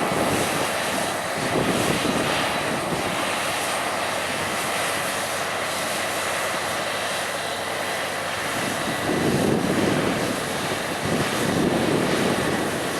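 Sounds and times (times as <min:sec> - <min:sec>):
combine harvester droning: 0:00.0 - 0:12.9.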